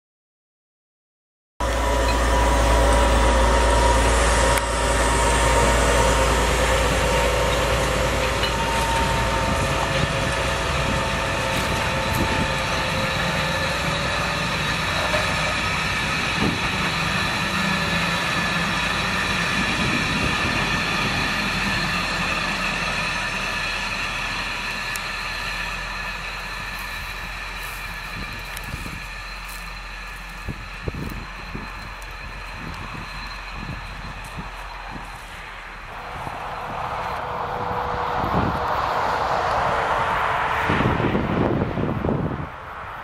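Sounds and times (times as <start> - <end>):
wagons rolling past: 1.6 - 41.5
diesel locomotive engine humming: 1.6 - 43.0.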